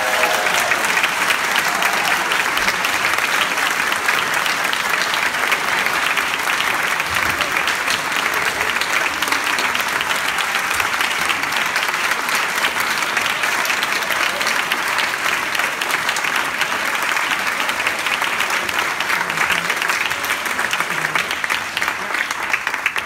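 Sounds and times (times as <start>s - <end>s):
audience applauding: 0.0s - 23.0s.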